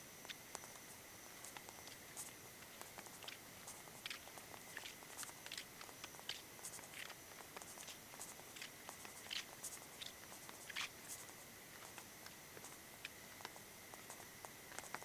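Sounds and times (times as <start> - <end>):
steady low hiss: 0.0 - 15.0
light clicks and ticks: 0.2 - 15.0.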